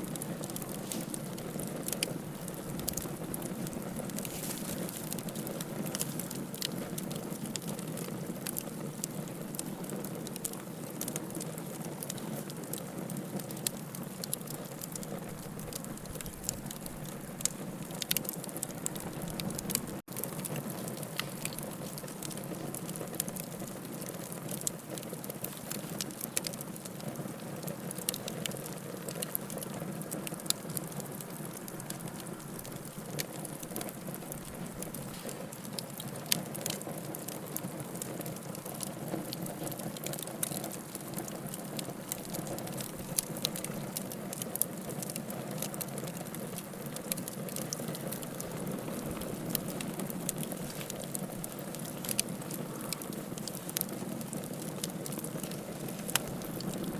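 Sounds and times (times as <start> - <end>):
low rush of flames: 0.0 - 56.9
wood crackling and popping: 0.0 - 56.9.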